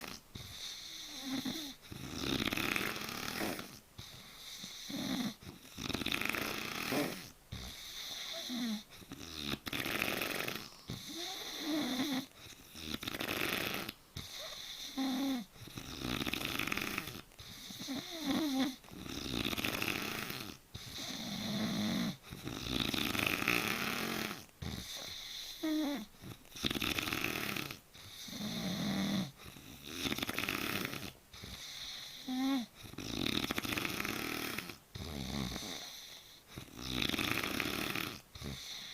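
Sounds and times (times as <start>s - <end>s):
person snoring: 0.0s - 38.9s.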